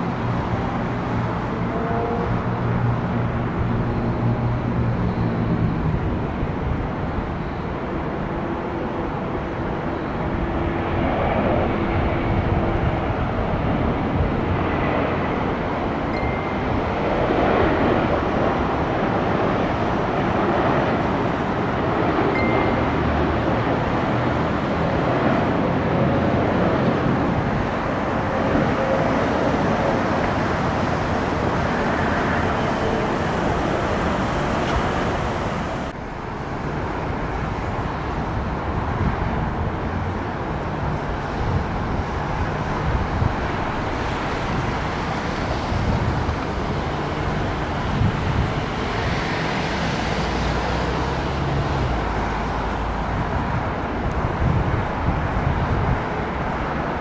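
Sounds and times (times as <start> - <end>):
engine roar: 0.0 - 57.0
wind: 0.0 - 57.0.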